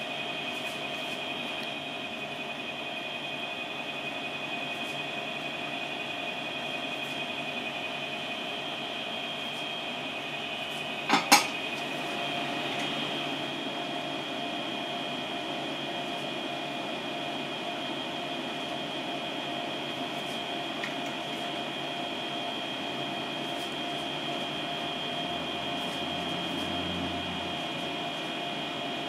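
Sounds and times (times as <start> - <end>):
high whine: 0.0 - 29.0
machine hum: 0.0 - 29.0.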